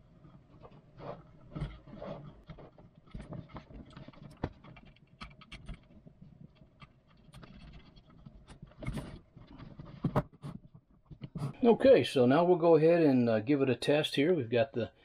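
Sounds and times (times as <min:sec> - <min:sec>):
cables rustling: 0:00.0 - 0:12.2.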